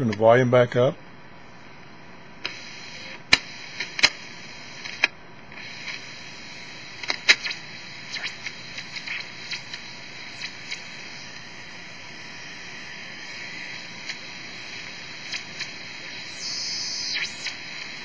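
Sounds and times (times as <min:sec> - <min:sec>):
radio clicks and crackles: 0:01.8 - 0:18.0
radio receiver hiss: 0:02.4 - 0:18.0.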